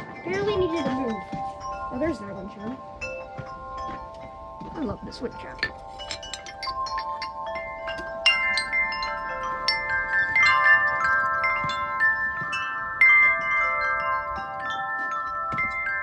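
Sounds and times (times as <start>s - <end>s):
wind chime ringing: 0.0s - 16.0s.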